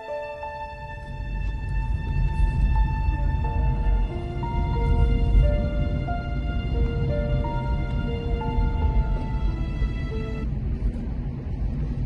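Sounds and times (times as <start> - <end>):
eerie music with held notes: 0.0 - 12.0
low drone: 0.0 - 12.0.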